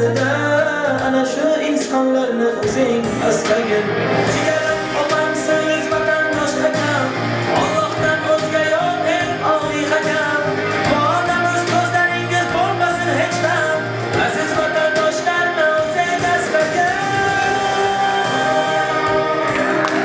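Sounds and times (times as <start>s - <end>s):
amplified instrumental accompaniment: 0.0s - 20.0s
man singing into a microphone: 0.0s - 20.0s.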